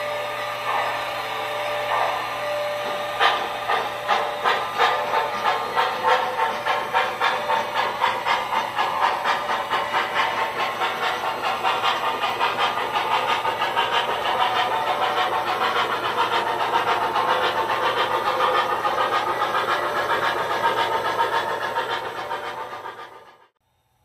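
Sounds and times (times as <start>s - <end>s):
wheels clicking over rail joints: 2.8s - 23.1s
model train cars rolling: 2.8s - 23.5s.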